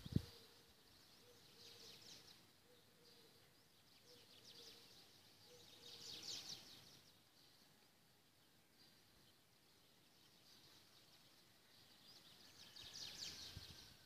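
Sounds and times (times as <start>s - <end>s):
quiet outdoor background noise: 0.0s - 14.0s
small birds chirping: 0.0s - 14.0s.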